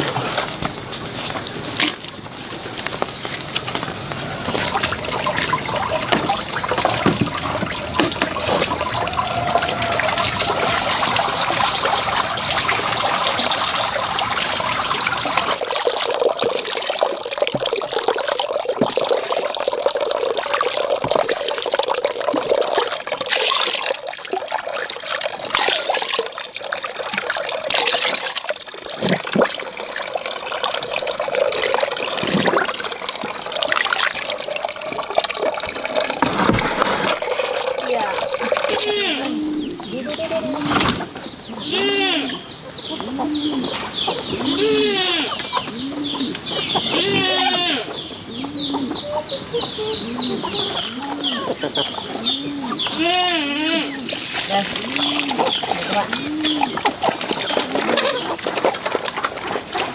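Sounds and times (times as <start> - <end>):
water running and splashing: 0.0 - 41.4, 49.0 - 59.9.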